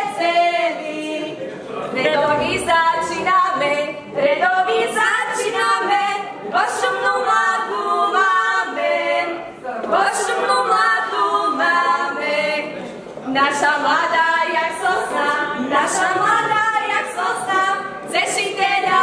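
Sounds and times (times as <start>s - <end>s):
women singing unaccompanied: 0.0s - 1.4s, 2.0s - 19.0s.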